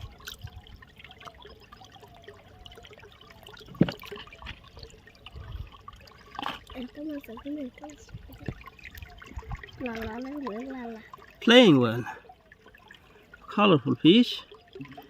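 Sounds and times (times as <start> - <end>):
pond water trickling and lapping: 0.0 - 15.0
small water splashes: 0.0 - 15.0.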